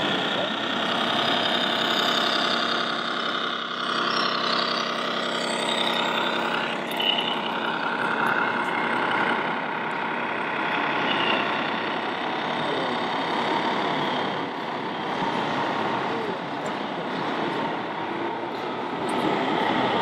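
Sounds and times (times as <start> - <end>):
hubbub of crowd in hall: 0.0 - 2.8, 5.5 - 20.0
simulated diesel truck engine: 0.0 - 20.0.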